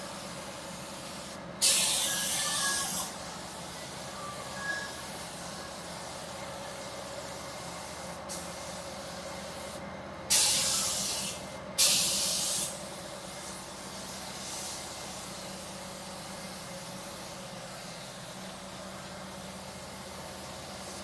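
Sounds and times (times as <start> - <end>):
pneumatic tool air hiss: 0.0 - 21.0.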